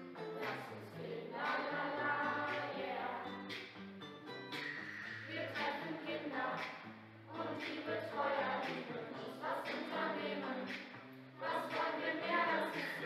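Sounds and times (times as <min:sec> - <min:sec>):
held instrumental backing: 0:00.0 - 0:13.0
voices singing together: 0:00.1 - 0:03.6, 0:04.7 - 0:13.0.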